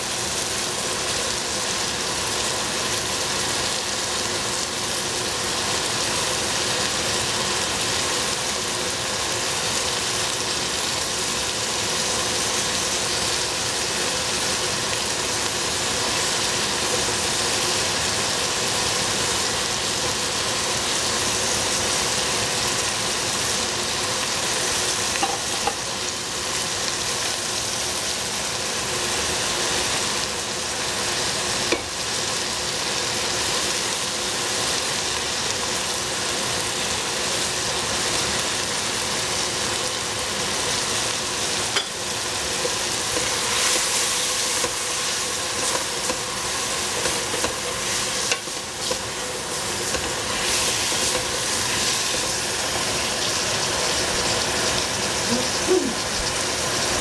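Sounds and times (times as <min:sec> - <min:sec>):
vegetables sizzling in pan: 0:00.0 - 0:57.0.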